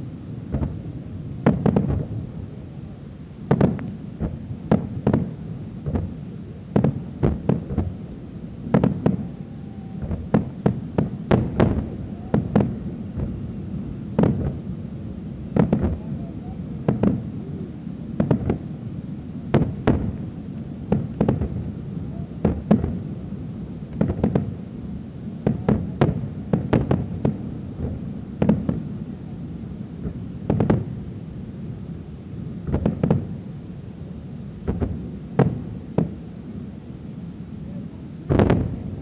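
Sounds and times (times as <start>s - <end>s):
fireworks bursting with bangs: 0.0s - 39.0s.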